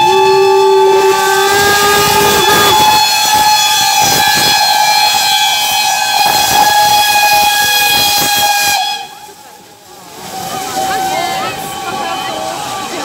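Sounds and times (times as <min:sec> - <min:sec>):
steam locomotive whistle: 0:00.0 - 0:09.4, 0:10.2 - 0:12.7
hissing steam: 0:00.0 - 0:13.0.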